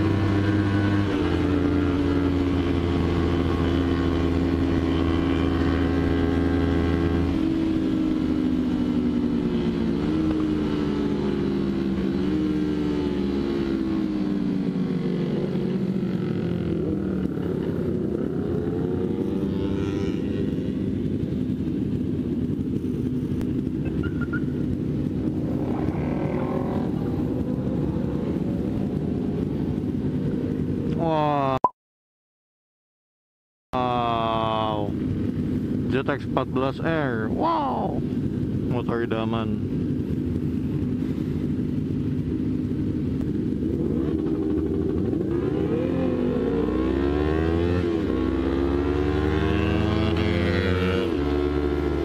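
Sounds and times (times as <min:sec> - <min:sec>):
motorcycle engine: 0:00.0 - 0:31.4, 0:36.9 - 0:52.0.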